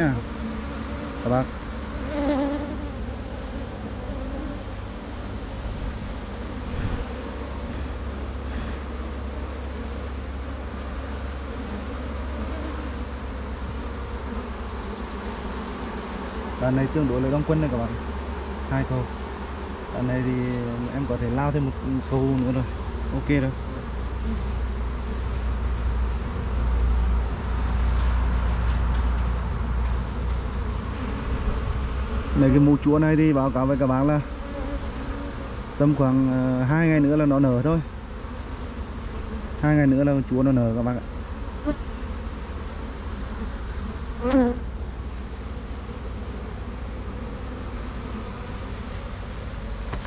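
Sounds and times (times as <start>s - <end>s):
honeybees buzzing: 0.0s - 50.0s.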